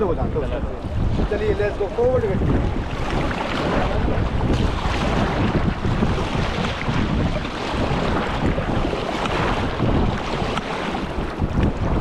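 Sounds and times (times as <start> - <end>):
river water rushing and splashing: 0.0 - 12.0
wind buffeting microphone: 0.0 - 12.0.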